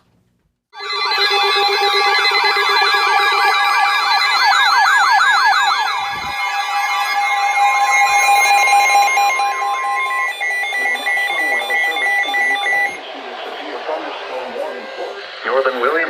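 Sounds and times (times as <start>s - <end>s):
electronic alert sirens: 0.8s - 16.0s
lower warble tone: 0.8s - 16.0s.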